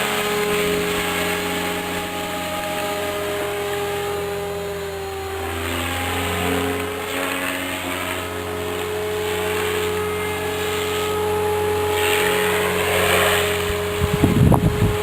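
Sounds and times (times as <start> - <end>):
motor and gear whine: 0.0 - 15.0
rotor blades rushing: 0.0 - 15.0.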